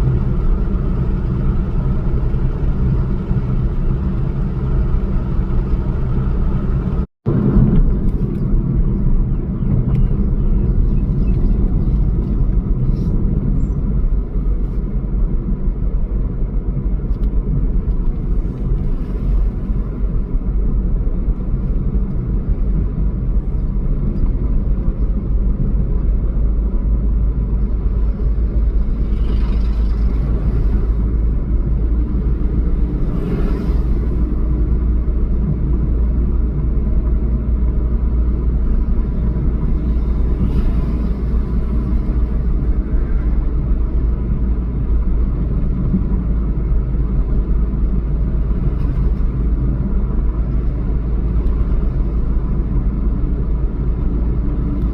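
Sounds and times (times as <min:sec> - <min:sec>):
motor vehicle rumble: 0:00.0 - 0:54.9
road noise: 0:00.0 - 0:54.9.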